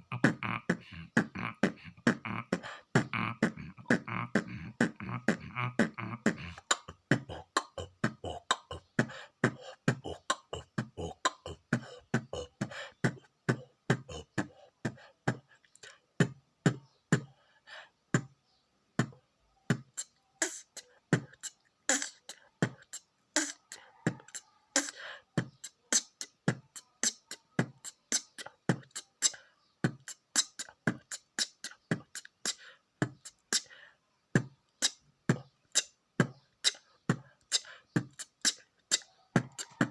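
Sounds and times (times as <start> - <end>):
beatboxing: 0.0 - 18.4, 19.0 - 33.8, 34.4 - 39.9.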